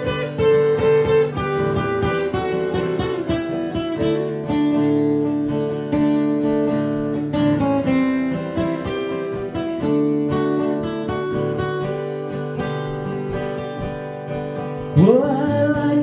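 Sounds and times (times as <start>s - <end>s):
acoustic guitar country tune: 0.0s - 16.0s.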